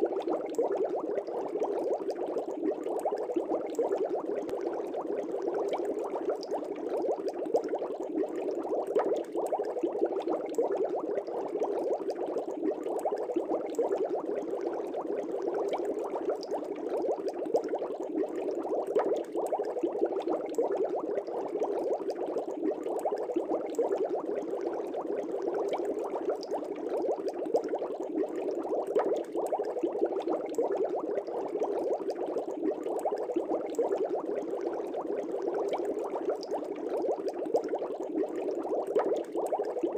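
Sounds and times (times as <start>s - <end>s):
aquarium air bubbles bubbling: 0.0s - 39.9s.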